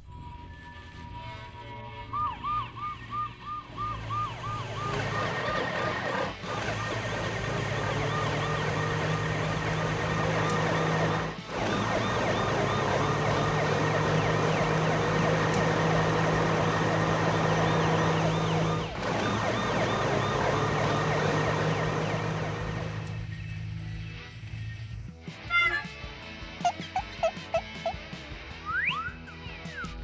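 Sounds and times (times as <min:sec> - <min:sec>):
emergency vehicle sirens wailing: 0:00.0 - 0:24.4.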